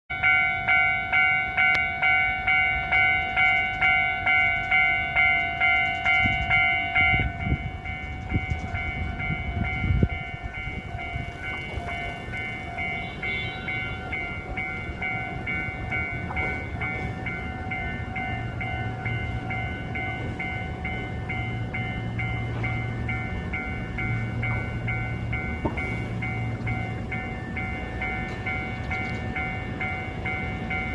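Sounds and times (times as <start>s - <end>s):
level crossing warning bell: 0.1s - 30.9s.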